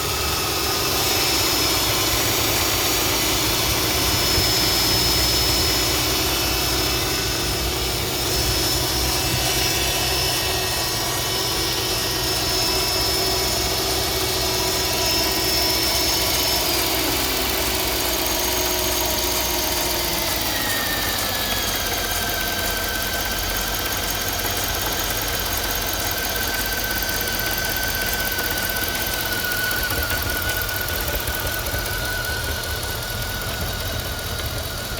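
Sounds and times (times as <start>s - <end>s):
car engine idling: 0.0s - 34.9s
irregular engine rattle: 0.0s - 34.9s
whining tones: 0.0s - 34.9s.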